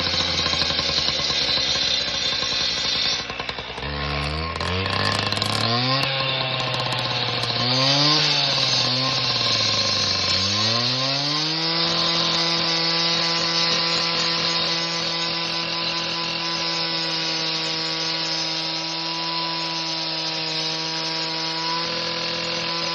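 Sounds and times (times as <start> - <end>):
handheld grinder whining: 0.0 - 22.9.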